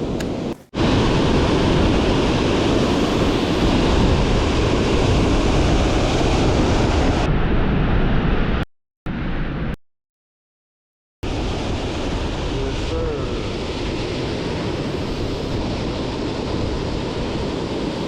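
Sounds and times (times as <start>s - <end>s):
strong wind on microphone: 0.0s - 9.8s, 11.2s - 18.0s.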